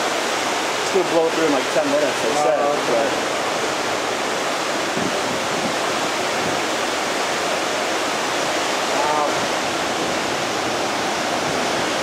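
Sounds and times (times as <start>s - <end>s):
heavy rain: 0.0s - 12.0s
strong wind roaring: 2.4s - 12.0s.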